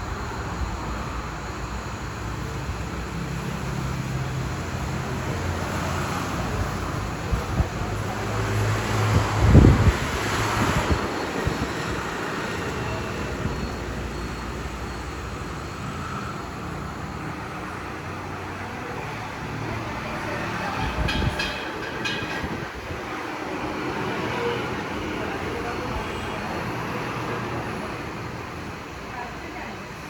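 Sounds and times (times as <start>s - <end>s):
passing vehicle rumble: 0.0s - 29.1s.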